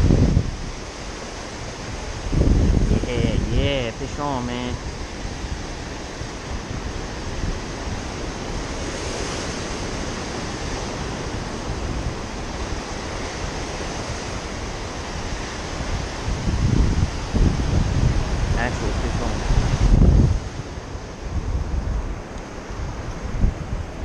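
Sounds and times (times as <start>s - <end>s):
ocean surf breaking: 0.0s - 24.0s
wind buffeting microphone: 0.0s - 24.0s.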